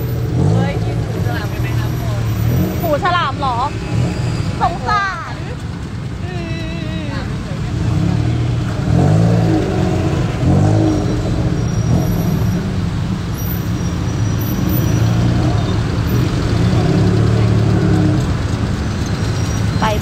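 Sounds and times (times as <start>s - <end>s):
road noise: 0.0s - 20.0s
tuk-tuk engines revving: 0.0s - 20.0s.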